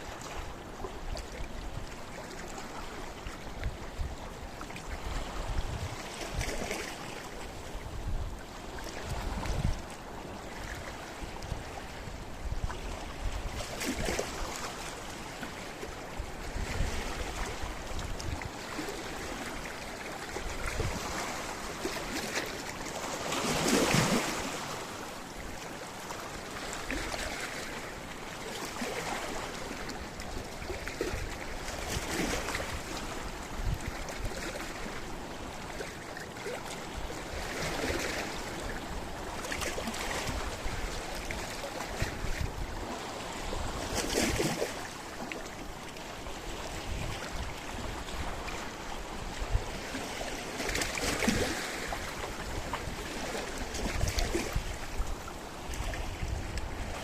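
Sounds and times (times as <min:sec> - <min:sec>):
sea waves washing on rocks: 0:02.6 - 0:57.0.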